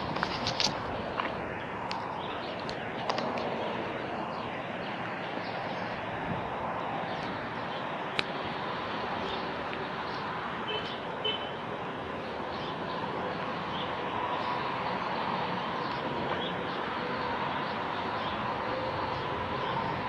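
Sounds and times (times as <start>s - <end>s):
highway traffic: 0.0s - 20.0s.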